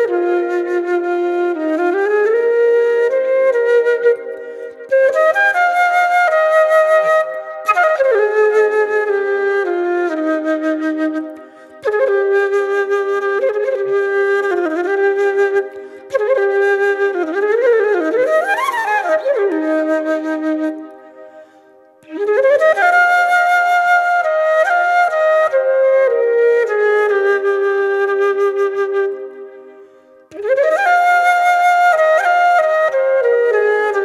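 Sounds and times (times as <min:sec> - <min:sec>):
solo flute melody: 0:00.0 - 0:34.0.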